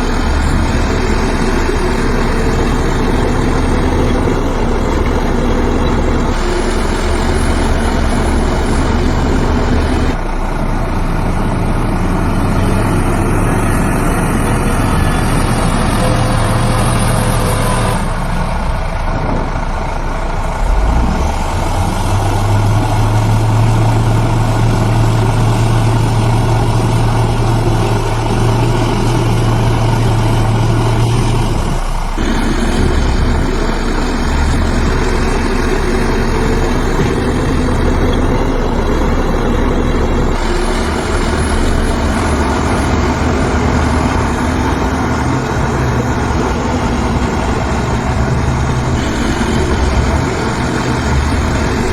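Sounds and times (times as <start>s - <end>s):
heavy diesel machinery engines: 0.0s - 51.9s.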